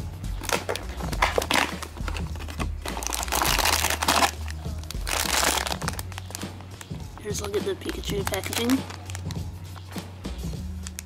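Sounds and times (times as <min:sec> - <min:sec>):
plastic snack bag crinkling: 0:00.4 - 0:09.9, 0:10.7 - 0:11.0.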